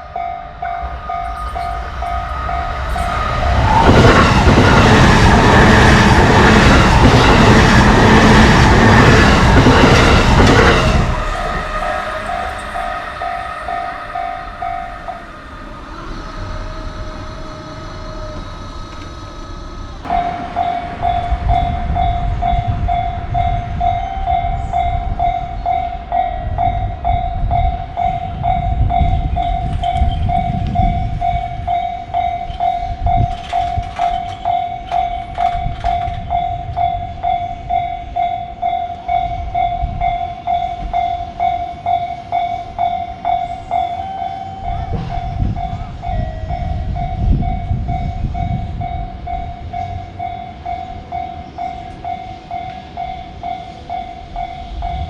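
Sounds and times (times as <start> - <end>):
level crossing bells ringing: 0.0 - 19.0, 19.8 - 55.0
rail clicks: 0.0 - 55.0
train rumbling on rails: 0.0 - 55.0.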